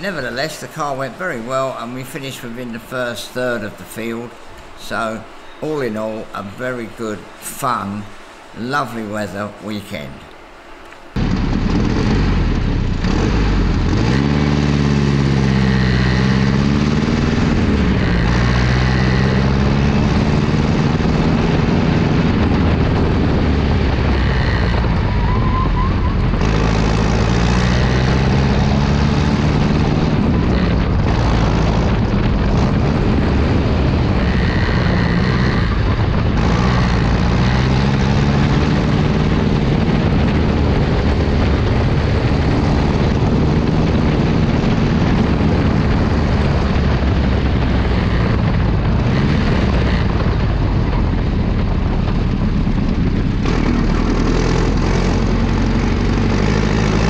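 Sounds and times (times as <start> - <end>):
race car engine revving: 11.2 - 57.0.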